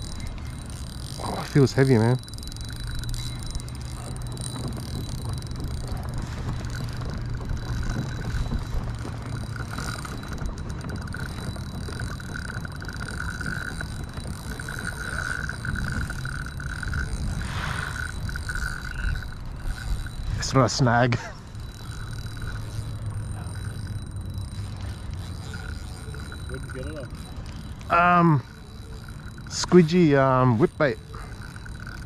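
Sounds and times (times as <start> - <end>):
fishing reel drag buzzing: 0.0 - 32.0
steady low hum: 0.0 - 32.0.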